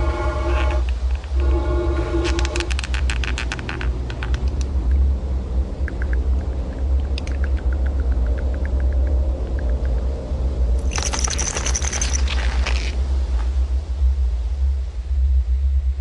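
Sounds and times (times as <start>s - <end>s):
deep low rumble: 0.0s - 16.0s.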